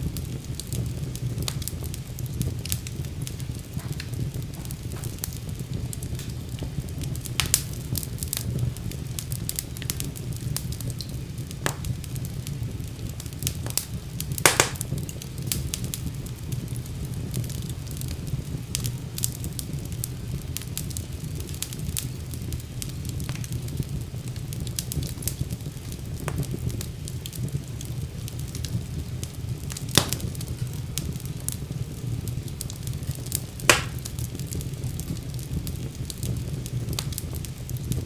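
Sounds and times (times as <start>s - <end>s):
burning wood popping: 0.0s - 38.0s
fire flames rumbling: 0.0s - 38.0s
wood fire crackling: 0.0s - 38.0s.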